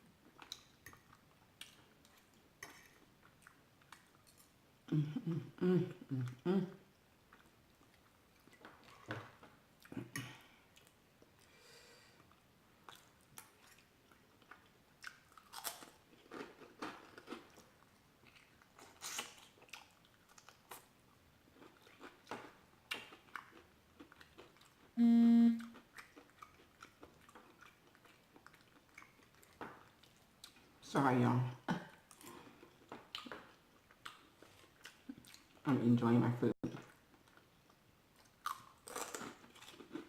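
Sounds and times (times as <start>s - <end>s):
person chewing food: 0.2s - 20.9s, 21.5s - 25.0s, 25.6s - 30.7s, 31.9s - 35.6s, 36.8s - 40.0s.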